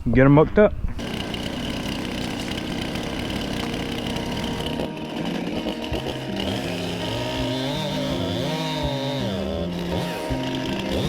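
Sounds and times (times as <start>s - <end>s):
small engine running: 1.0s - 11.0s.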